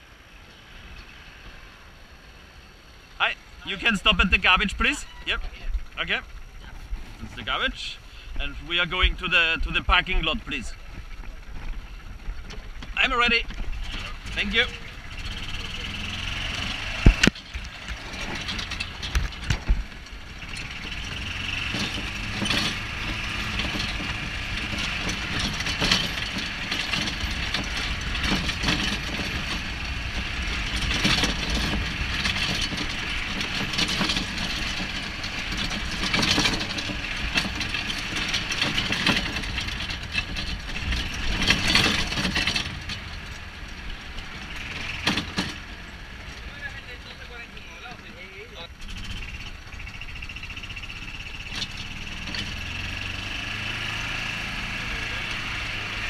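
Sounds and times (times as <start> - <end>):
golf cart running: 0.0 - 56.0.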